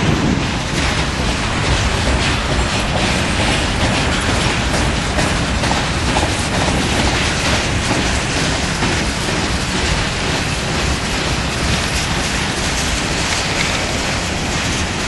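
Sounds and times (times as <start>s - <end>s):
train cars clacking and rattling: 0.0s - 15.0s
train wheels rumbling on rail: 0.0s - 15.0s.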